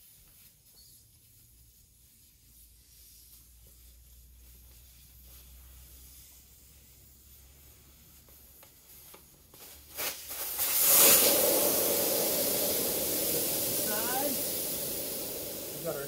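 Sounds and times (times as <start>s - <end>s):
air hissing from tire valve: 2.8s - 16.0s.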